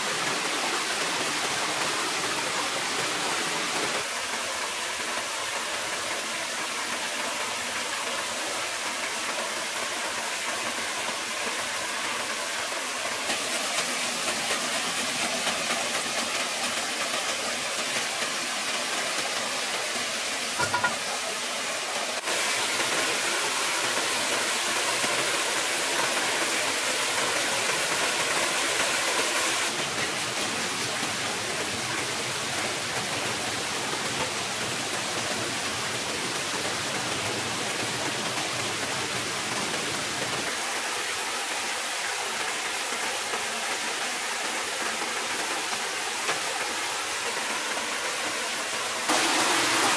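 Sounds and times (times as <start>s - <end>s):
stream and waterfall over rocks: 0.0s - 49.9s.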